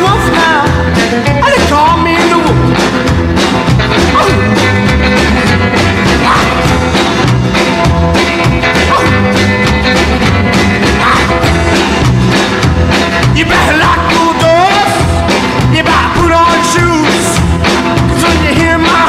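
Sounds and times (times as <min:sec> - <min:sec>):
rock and roll band music: 0:00.0 - 0:19.0.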